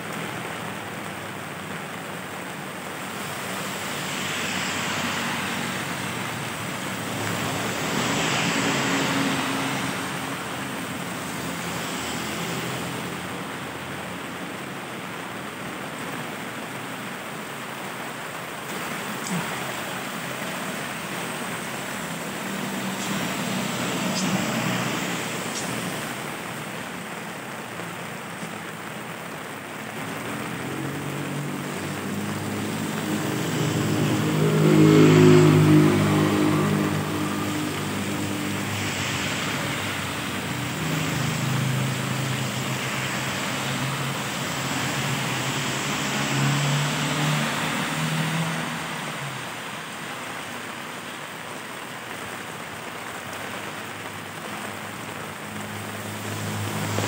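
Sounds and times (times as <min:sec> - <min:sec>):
steady rain: 0:00.0 - 0:57.0
vehicles passing on wet road: 0:00.0 - 0:57.0.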